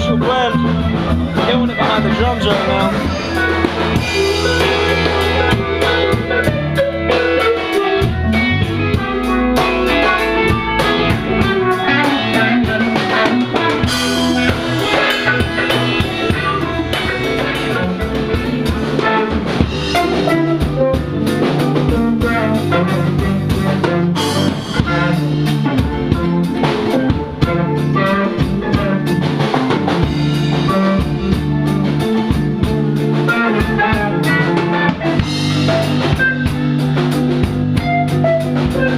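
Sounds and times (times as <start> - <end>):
bass line: 0.0 - 38.9
drum kit beat: 0.0 - 38.9
guitar: 0.0 - 38.9.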